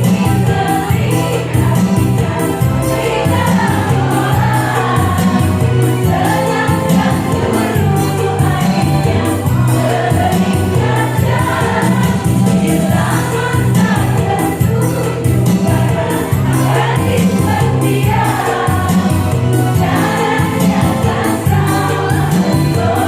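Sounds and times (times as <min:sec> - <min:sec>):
backing accompaniment with beat: 0:00.0 - 0:23.0
women's choir singing: 0:00.0 - 0:23.0.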